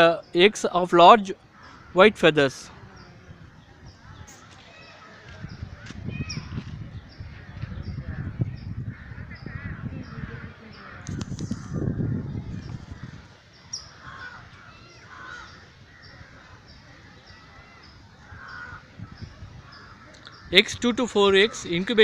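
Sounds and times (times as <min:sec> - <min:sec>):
birds calling harshly: 0:00.0 - 0:22.0.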